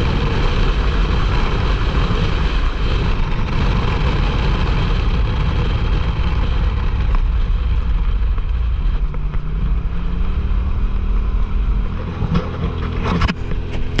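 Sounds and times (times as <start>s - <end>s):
utility vehicle engine running: 0.0s - 14.0s
wind rush: 0.0s - 14.0s.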